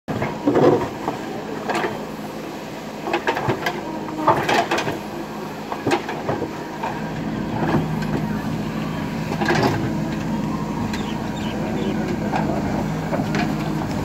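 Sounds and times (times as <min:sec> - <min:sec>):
diesel engine humming: 0:00.1 - 0:14.0.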